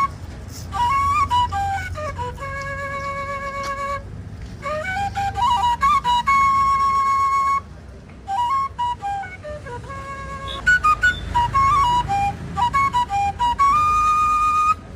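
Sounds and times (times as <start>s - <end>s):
flute melody: 0.0s - 14.9s.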